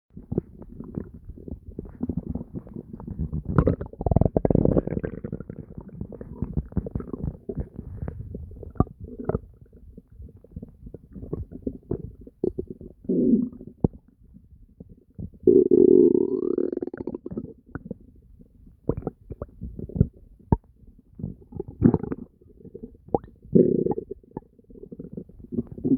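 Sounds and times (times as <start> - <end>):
stomach gurgling and growling: 0.1 - 25.9.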